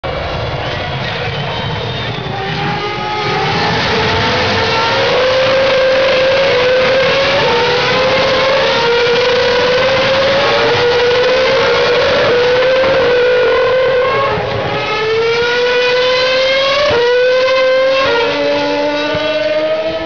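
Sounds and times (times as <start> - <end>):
race cars at full throttle: 0.0 - 20.0.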